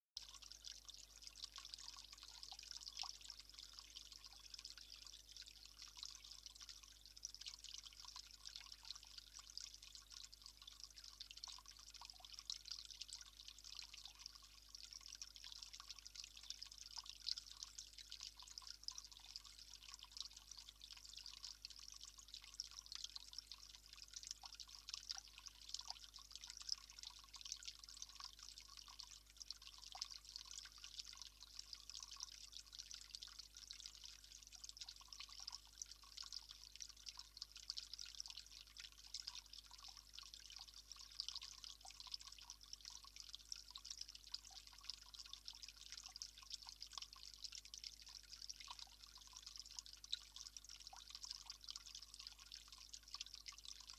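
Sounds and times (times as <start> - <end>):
trickle of running water: 0.2 - 53.9
water drips and splashes: 0.2 - 53.9.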